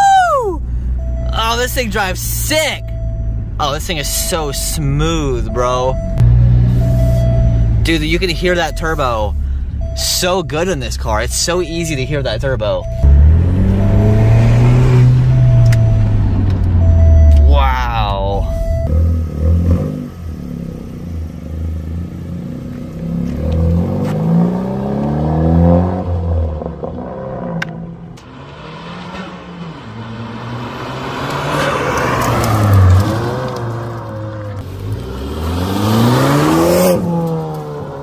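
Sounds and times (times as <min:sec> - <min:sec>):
car engine accelerating: 0:00.8 - 0:38.0.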